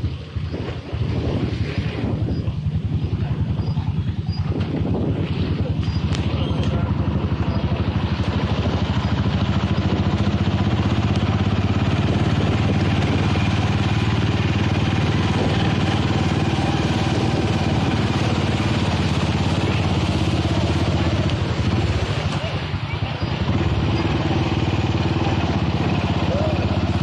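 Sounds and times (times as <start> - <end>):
water hiss and road noise: 0.0 - 27.0.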